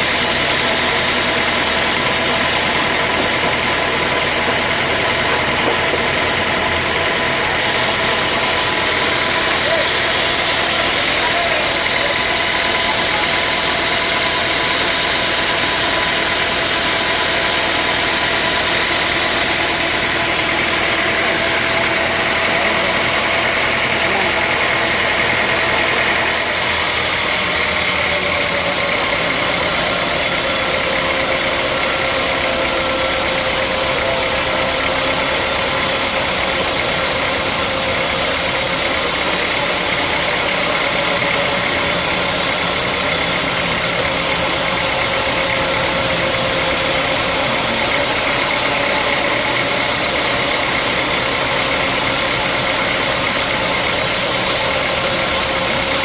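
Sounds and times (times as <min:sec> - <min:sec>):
sawmill machinery din: 0:00.0 - 0:56.0.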